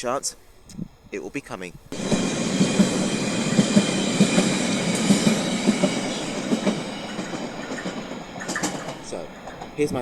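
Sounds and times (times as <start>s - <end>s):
train rumbling on rails: 0.8s - 10.0s
wheels clicking over track: 2.0s - 10.0s.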